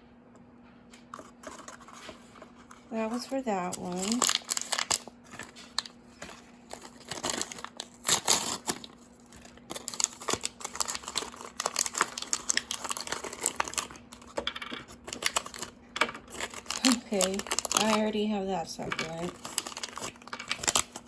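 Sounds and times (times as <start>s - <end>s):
plastic wrappers crinkling and tearing: 1.1s - 21.0s.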